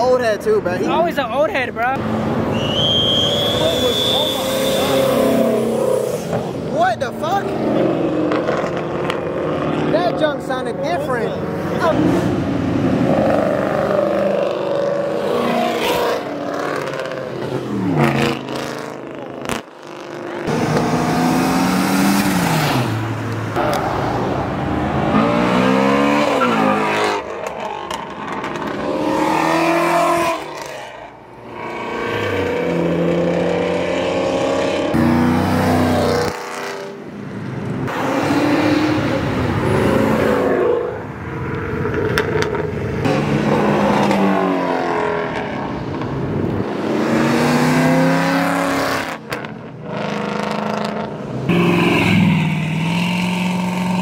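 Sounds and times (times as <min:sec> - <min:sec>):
car engines accelerating hard: 0:00.0 - 0:54.0.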